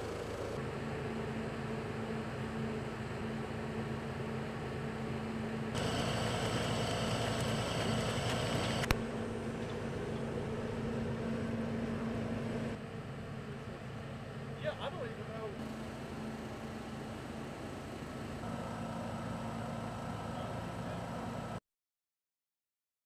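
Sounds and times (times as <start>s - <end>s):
machinery humming: 0.0s - 21.6s.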